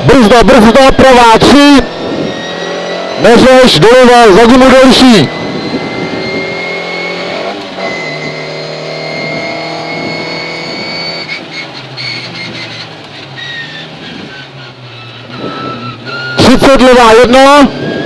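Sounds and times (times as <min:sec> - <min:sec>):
rally car engine from cabin: 0:00.0 - 0:18.0.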